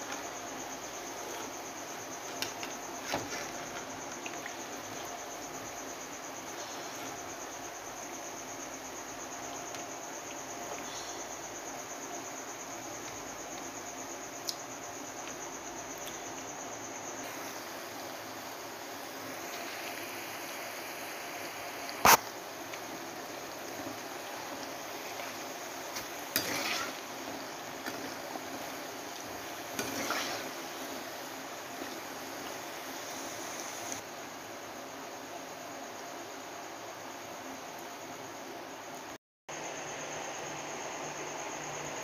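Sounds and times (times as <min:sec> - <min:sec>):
hot oil sizzling: 0:00.0 - 0:34.1.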